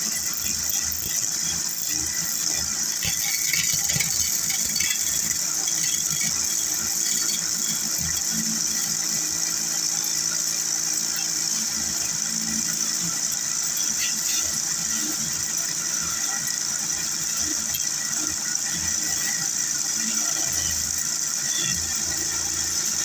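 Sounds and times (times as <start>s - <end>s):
wood lathe running: 0.0s - 20.0s.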